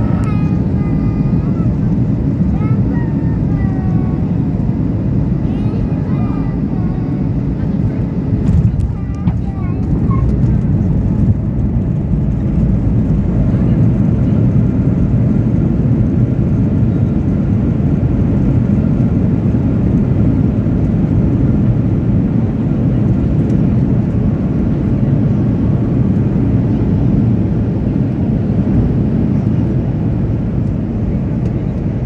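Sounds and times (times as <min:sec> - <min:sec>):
jet engine cabin rumble: 0:00.0 - 0:32.0.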